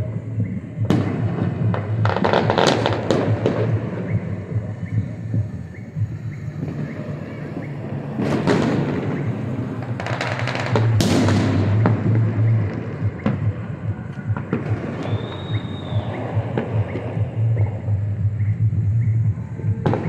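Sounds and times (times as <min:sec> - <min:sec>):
fireworks crackling bursts: 0:00.0 - 0:18.0
distant fireworks cracking: 0:00.0 - 0:20.0.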